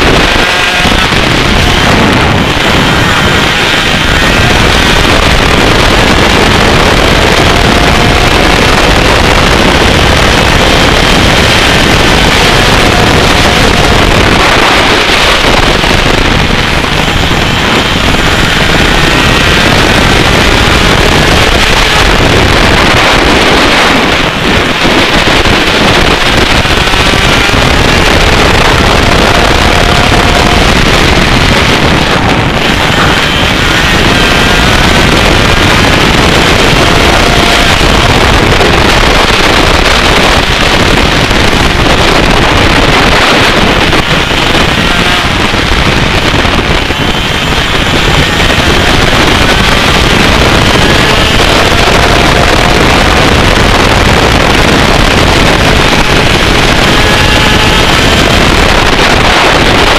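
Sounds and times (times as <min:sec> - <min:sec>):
kart engine revving: 0:00.0 - 0:59.9
wind buffeting microphone: 0:00.0 - 0:59.9.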